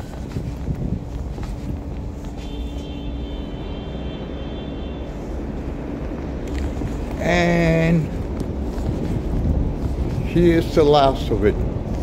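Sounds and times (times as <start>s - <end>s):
constant hum: 0.0s - 12.0s
subway station low rumble: 0.0s - 12.0s.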